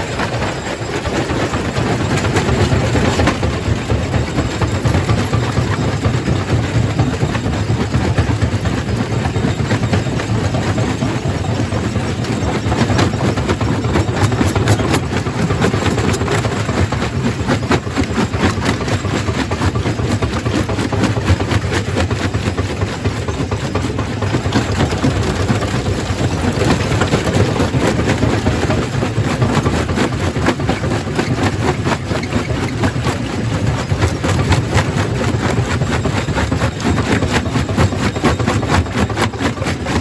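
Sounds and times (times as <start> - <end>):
rock crusher drone: 0.0 - 40.0.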